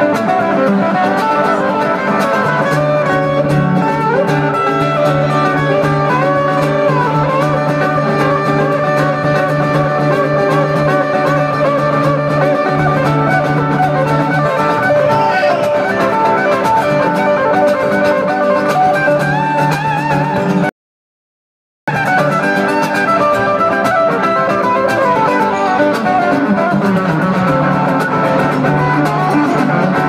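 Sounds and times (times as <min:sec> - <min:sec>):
acoustic guitar strumming: 0:00.0 - 0:20.7, 0:21.9 - 0:30.0
electric guitar lead line: 0:00.0 - 0:20.7, 0:21.9 - 0:30.0.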